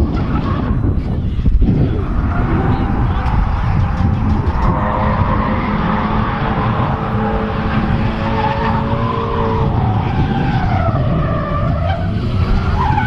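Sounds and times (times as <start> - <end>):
car engine at high revs: 0.0 - 13.0
tires squealing: 0.0 - 13.0.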